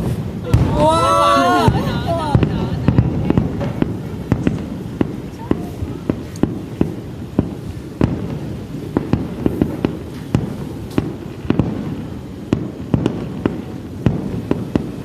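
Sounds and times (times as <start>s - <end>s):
firework shells bursting: 0.0s - 15.0s
low rumble of echoing blasts: 0.0s - 15.0s.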